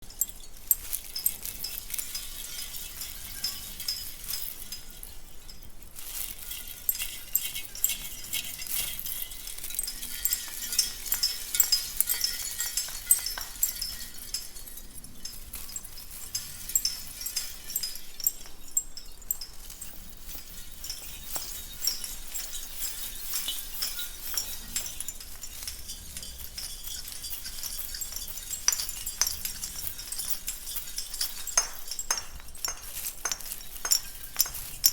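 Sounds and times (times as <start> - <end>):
ornaments clinking together: 0.1 - 34.9.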